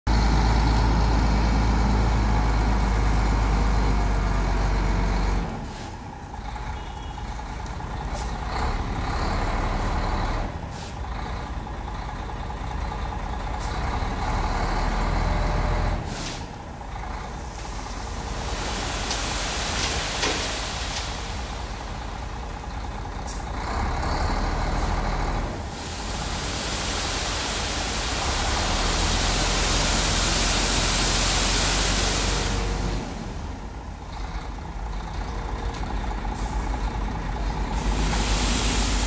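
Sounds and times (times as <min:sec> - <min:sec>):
diesel truck engine under load: 0:00.1 - 0:39.0.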